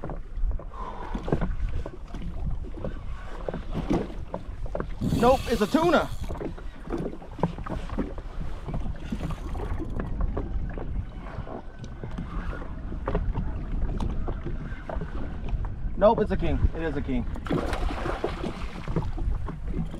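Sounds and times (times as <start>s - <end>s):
water slapping against hull: 0.0s - 19.9s
wind rumbling on microphone: 0.0s - 19.9s.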